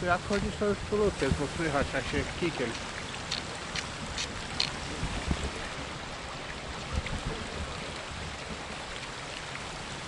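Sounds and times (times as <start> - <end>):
stream rushing: 0.0 - 10.0.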